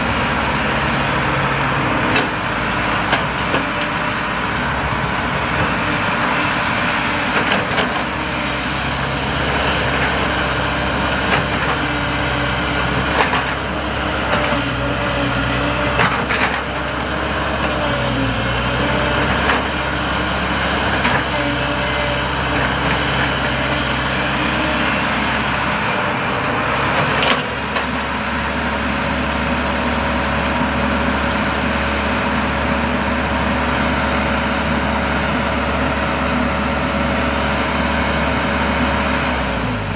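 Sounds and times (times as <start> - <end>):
excavator diesel engine running: 0.0 - 39.9
hydraulic whine: 0.0 - 39.9.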